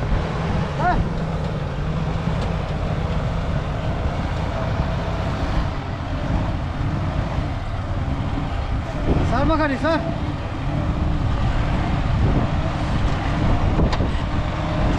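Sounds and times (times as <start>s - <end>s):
truck engine running under load: 0.0s - 14.9s.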